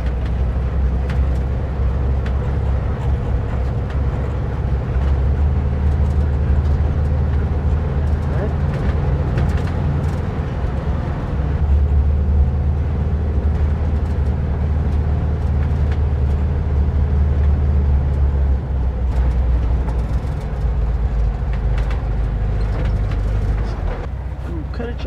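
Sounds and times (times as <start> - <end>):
bus engine running at low speed: 0.0 - 25.0.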